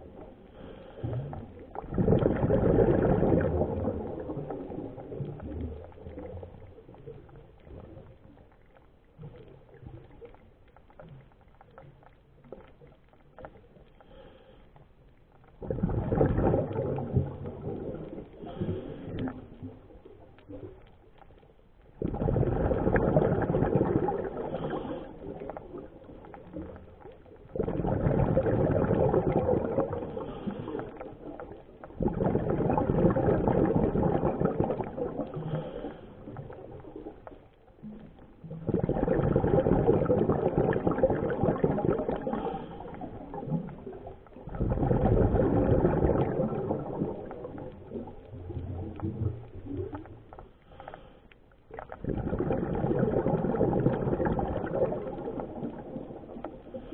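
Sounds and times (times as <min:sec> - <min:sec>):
bubbles rushing and gurgling: 0:00.0 - 0:13.9, 0:15.4 - 0:51.0, 0:51.6 - 0:56.9.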